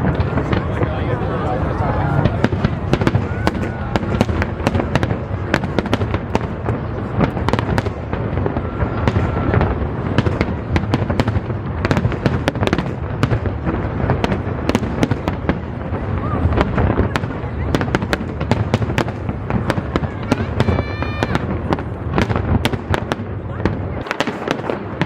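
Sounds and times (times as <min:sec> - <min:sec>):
fireworks booming: 0:00.0 - 0:25.0
fireworks crackling: 0:00.0 - 0:25.0.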